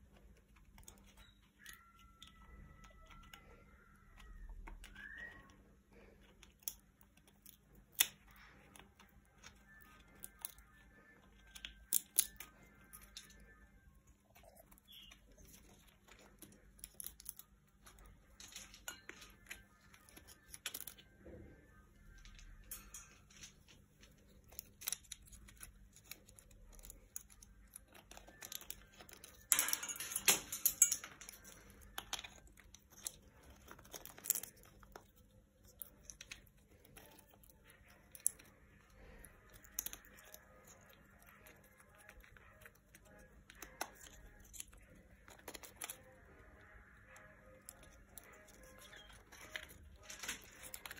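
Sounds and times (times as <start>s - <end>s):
parrot cracking walnut shell: 6.2s - 21.4s, 22.2s - 50.9s.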